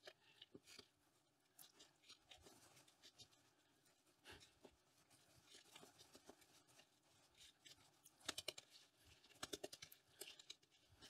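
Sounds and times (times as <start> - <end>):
hands crackling potting mix: 0.0 - 11.0.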